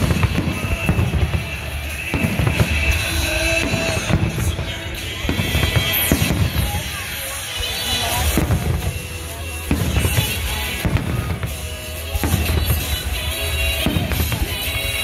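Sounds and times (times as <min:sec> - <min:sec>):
fireworks exploding: 0:00.0 - 0:15.0
music playing: 0:00.0 - 0:15.0.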